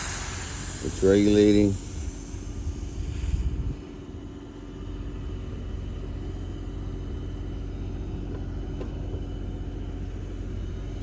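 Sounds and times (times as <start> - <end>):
hvac equipment humming: 0.0 - 11.0.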